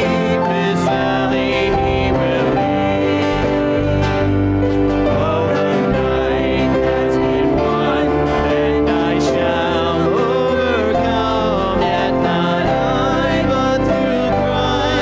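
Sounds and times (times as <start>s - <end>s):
keyboard chords: 0.0s - 15.0s
people singing a hymn: 0.0s - 15.0s.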